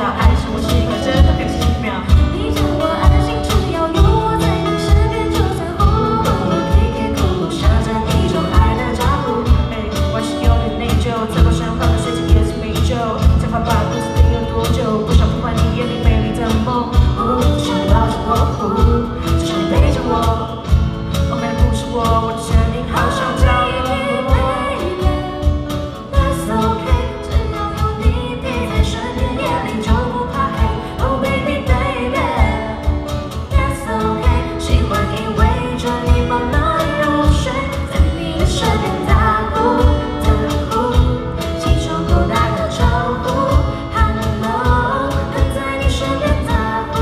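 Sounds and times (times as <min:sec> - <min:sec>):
drum kit beat: 0:00.0 - 0:47.0
guitar: 0:00.0 - 0:47.0
person singing: 0:00.0 - 0:47.0.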